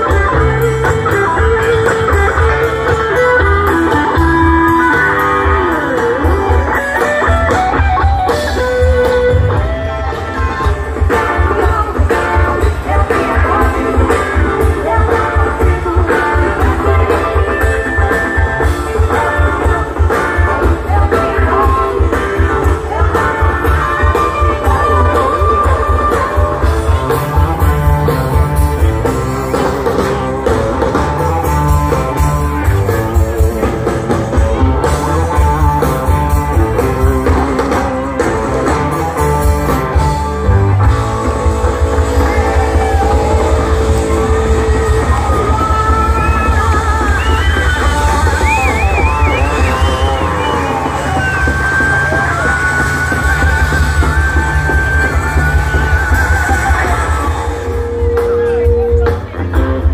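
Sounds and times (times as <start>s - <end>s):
bass: 0.0s - 59.9s
drums: 0.0s - 59.9s
electric guitar: 0.0s - 59.9s.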